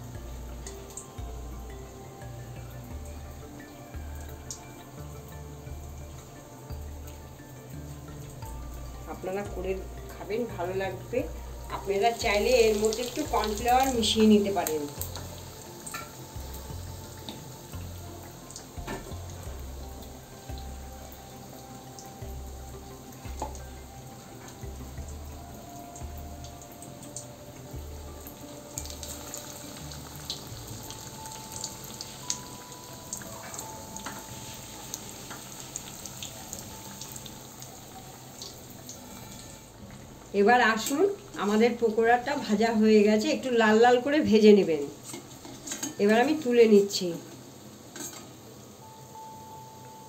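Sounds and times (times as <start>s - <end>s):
hot oil sizzling and popping: 0.0s - 50.0s.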